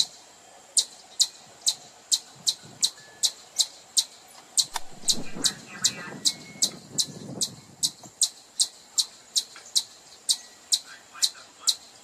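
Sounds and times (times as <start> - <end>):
chipmunk chip calls: 0.0 - 12.0.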